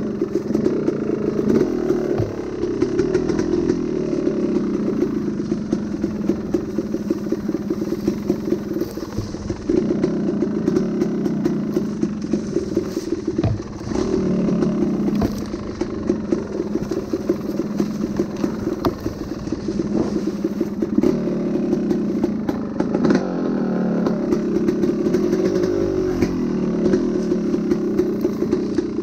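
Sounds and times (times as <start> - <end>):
sharp clicks and clatter: 0.0 - 23.3, 24.0 - 29.0
dirt bike engine running: 0.0 - 29.0.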